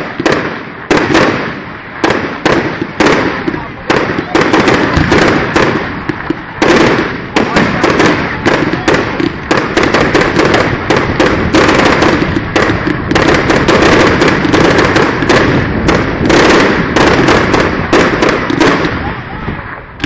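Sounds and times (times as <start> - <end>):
fireworks bangs and cracks: 0.0 - 20.0
fireworks crackling hiss: 0.0 - 20.0.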